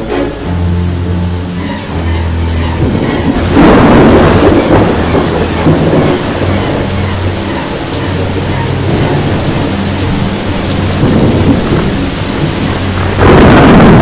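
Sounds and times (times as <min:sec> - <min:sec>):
heavy rain: 0:00.0 - 0:14.0
low thunder: 0:01.8 - 0:14.0
loud thunderclap: 0:02.5 - 0:14.0.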